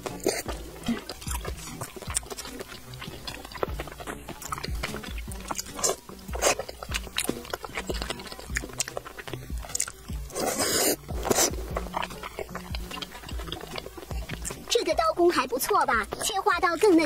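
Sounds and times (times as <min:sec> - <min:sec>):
slurp: 0:00.0 - 0:14.7
wet mouth clicks and smacking: 0:00.0 - 0:14.7.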